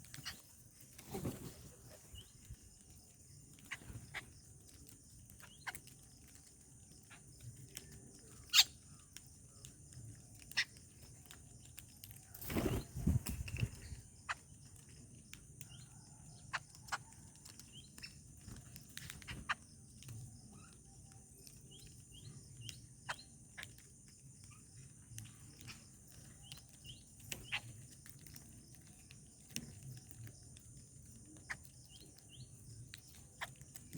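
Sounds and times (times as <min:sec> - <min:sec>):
birds chirping: 0:00.0 - 0:11.7, 0:12.3 - 0:33.9.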